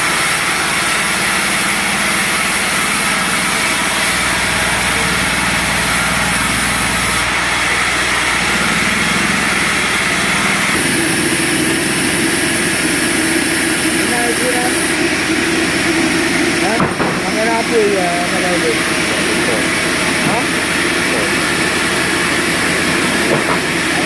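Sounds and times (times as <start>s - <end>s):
sawmill machinery droning: 0.0s - 24.0s.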